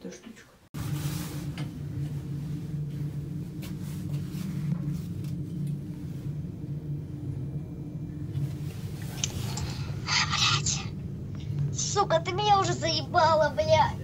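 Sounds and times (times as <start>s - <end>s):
elevator hum and rumble: 0.8s - 14.0s.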